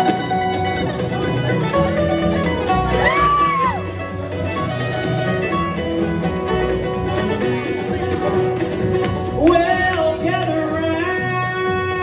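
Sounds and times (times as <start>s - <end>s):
country band playing: 0.0s - 12.0s
plucked guitars: 0.0s - 12.0s
upright bass: 0.0s - 12.0s.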